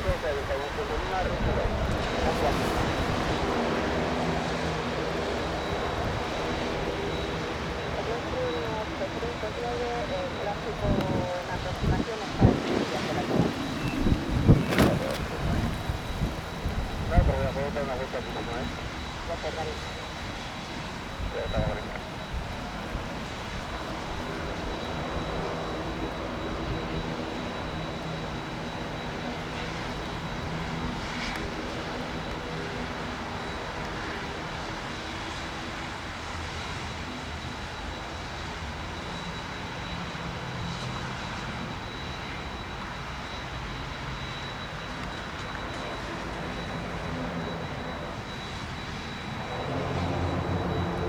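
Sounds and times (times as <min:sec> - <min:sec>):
thin steady high whine: 0:00.0 - 0:51.0
turboprop engines drone: 0:00.0 - 0:51.0.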